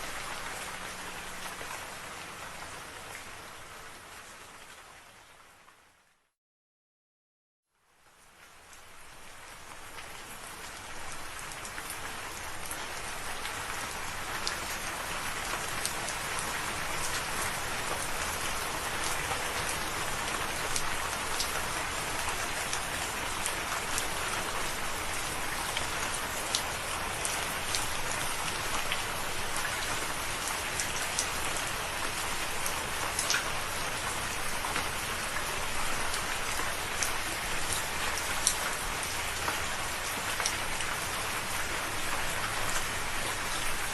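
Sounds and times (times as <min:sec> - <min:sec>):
steady rain falling: 0:00.0 - 0:06.4, 0:07.7 - 0:43.9.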